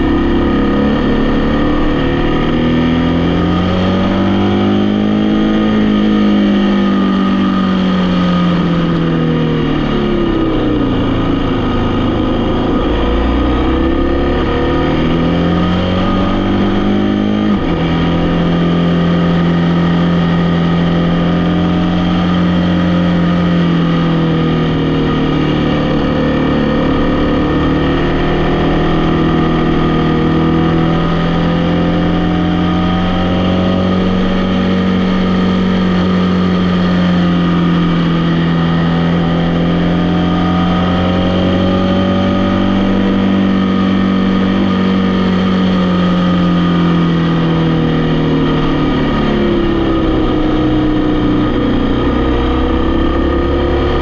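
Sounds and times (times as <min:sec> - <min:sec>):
vehicle engine driving: 0:00.0 - 0:54.0.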